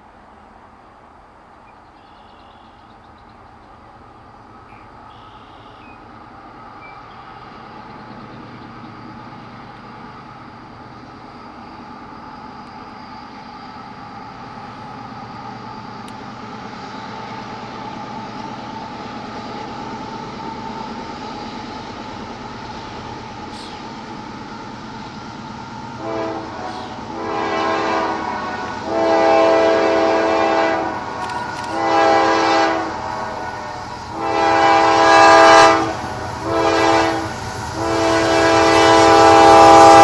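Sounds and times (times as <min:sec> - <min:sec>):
diesel freight train rumbling: 0:00.0 - 0:40.0.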